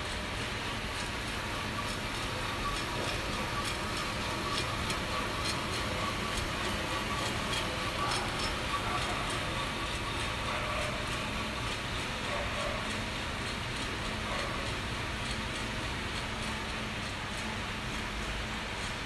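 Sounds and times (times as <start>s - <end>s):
beans ticking in drum: 0.0s - 19.0s
coffee roaster mechanical whir: 0.0s - 19.0s.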